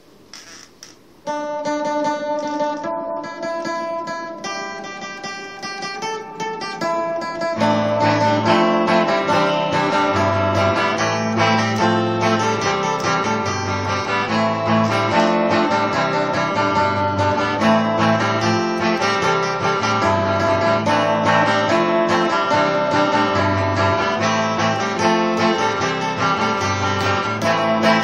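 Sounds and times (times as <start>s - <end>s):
guitar music: 1.2s - 28.0s.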